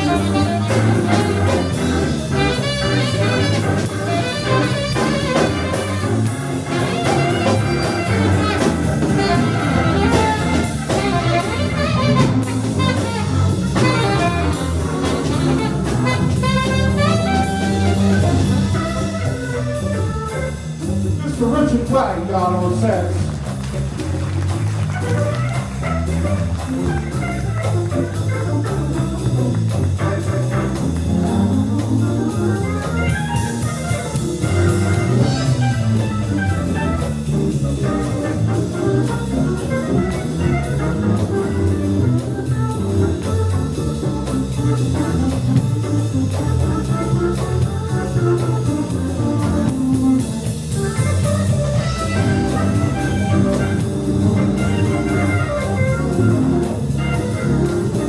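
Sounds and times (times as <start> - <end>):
jazz band playing: 0.0 - 58.0
saxophone runs: 0.0 - 58.0.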